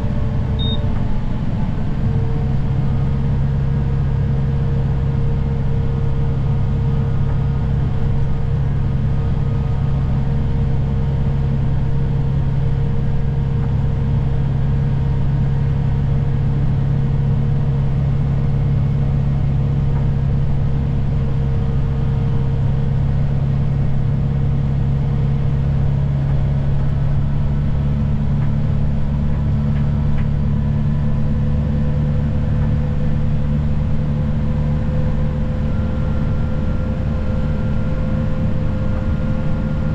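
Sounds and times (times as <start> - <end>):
vehicle engine running under load: 0.0 - 39.9.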